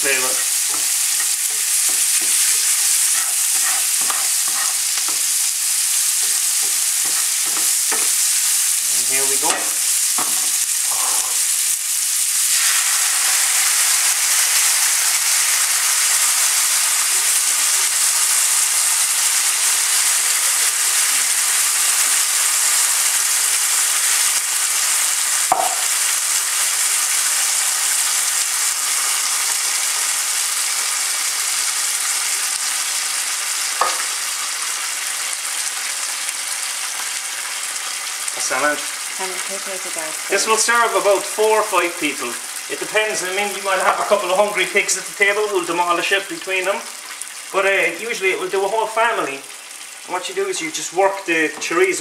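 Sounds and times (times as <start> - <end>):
chorizo sizzling in oil: 0.0 - 52.0.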